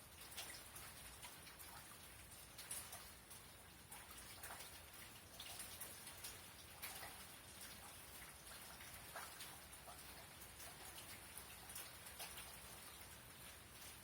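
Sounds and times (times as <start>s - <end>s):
light rain hiss: 0.0s - 14.0s
raindrops landing: 0.0s - 14.0s.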